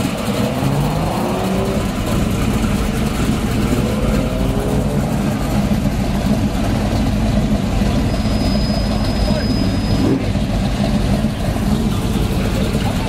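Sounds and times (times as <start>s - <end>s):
car engine revving: 0.0s - 13.0s
low engine rumble: 0.0s - 13.0s.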